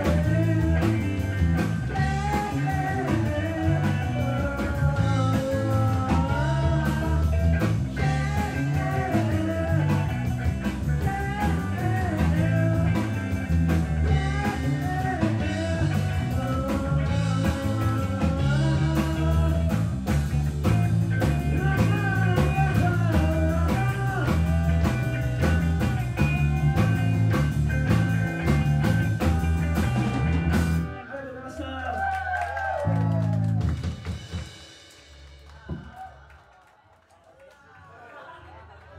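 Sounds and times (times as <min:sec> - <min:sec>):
man singing: 0:00.0 - 0:29.0, 0:30.9 - 0:33.2
drum kit beat: 0:00.0 - 0:31.0, 0:32.8 - 0:36.3
electric guitar: 0:00.0 - 0:34.8
bass: 0:00.0 - 0:36.5.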